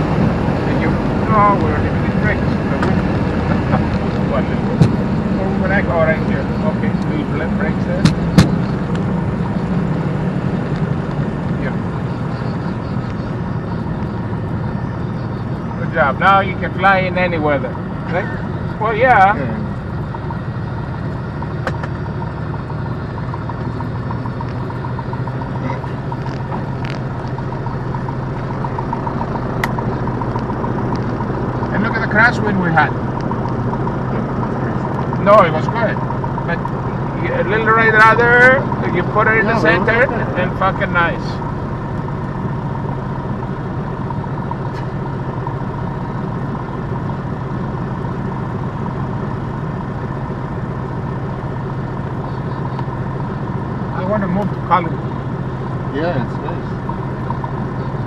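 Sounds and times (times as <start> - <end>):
faint steady whine: 0.0 - 58.0
propeller plane engine humming: 0.0 - 58.0.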